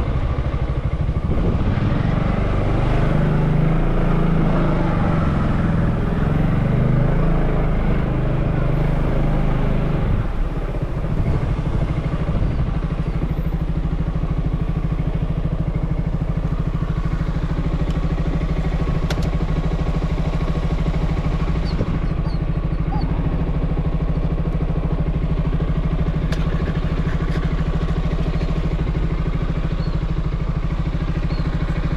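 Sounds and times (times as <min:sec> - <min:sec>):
motorbike engine idling: 0:00.0 - 0:31.9.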